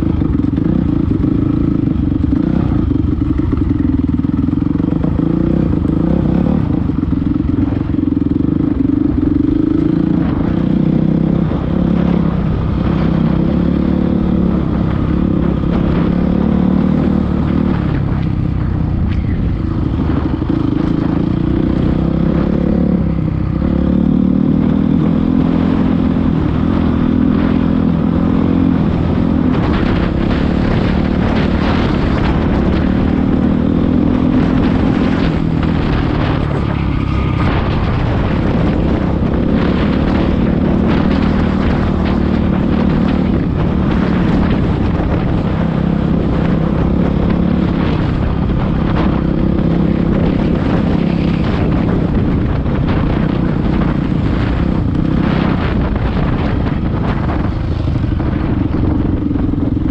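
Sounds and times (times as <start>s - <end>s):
dirt bike engine revving: 0.0s - 18.3s, 19.4s - 59.9s.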